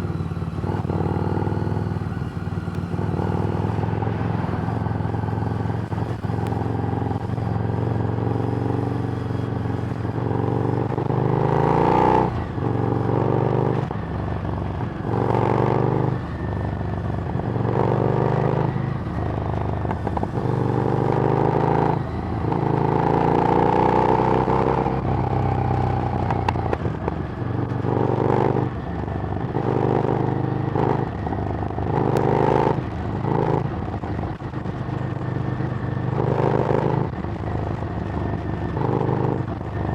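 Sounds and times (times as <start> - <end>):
motorcycle engine accelerating and shifting: 0.0 - 39.9.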